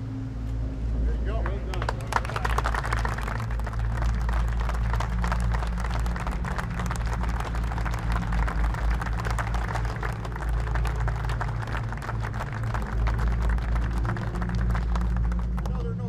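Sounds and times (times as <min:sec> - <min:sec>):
steady low hum: 0:00.0 - 0:16.0
crowd applauding: 0:01.2 - 0:16.0.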